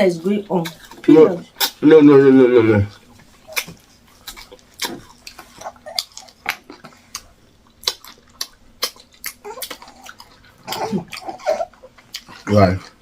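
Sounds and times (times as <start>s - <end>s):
wet eating sounds: 0.2s - 13.0s.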